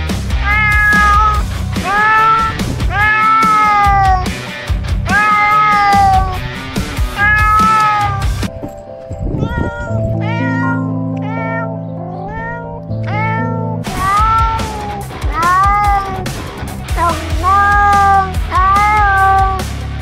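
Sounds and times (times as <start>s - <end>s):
background music with sustained notes: 0.0s - 20.0s
cat meowing: 0.4s - 4.4s, 5.0s - 8.5s, 9.4s - 19.7s.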